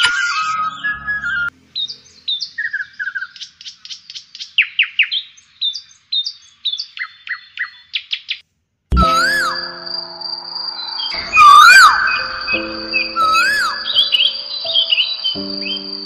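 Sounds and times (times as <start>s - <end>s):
small bird singing: 0.0s - 16.0s.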